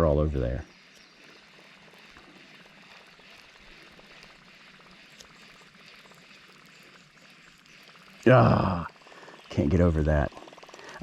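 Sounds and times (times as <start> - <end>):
faint water sounds: 0.0 - 11.0
small scattered ticks: 0.0 - 11.0.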